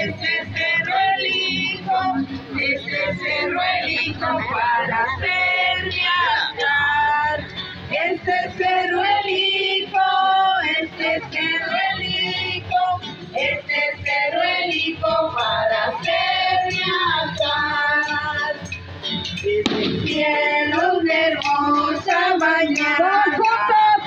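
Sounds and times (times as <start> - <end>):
women singing to music: 0.0 - 24.0.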